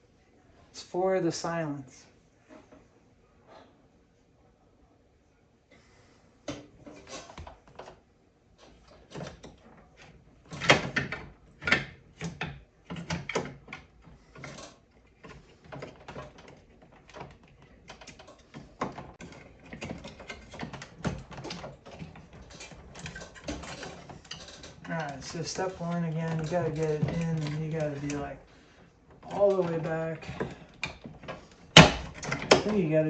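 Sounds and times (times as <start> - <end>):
knocks clicks and scrapes of parts: 6.4 - 33.0.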